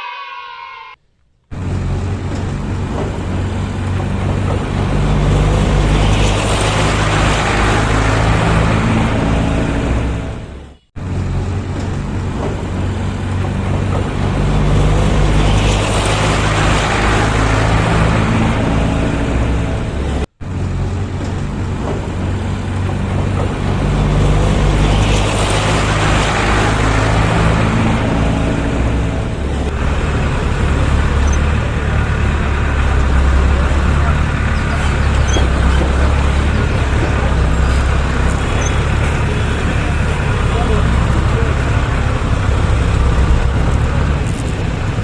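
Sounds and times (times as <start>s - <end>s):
truck engine droning: 1.5s - 45.0s.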